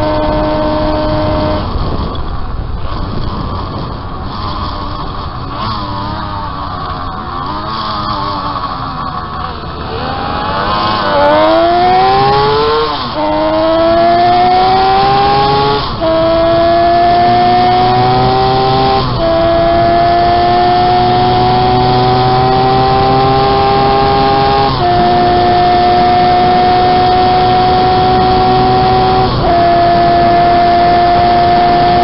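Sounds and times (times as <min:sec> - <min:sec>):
motorcycle engine accelerating: 0:00.0 - 0:32.0
motorcycle gear shifts: 0:00.0 - 0:32.0.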